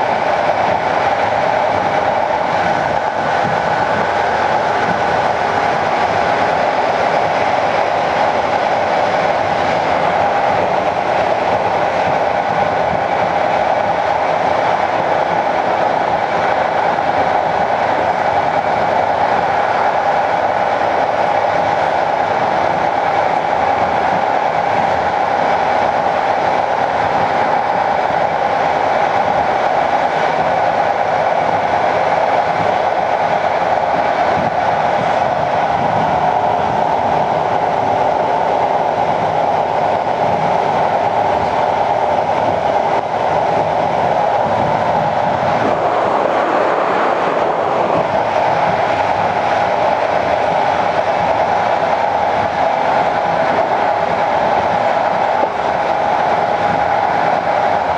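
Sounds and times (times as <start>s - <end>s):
train wheels on rails: 0.0s - 57.9s.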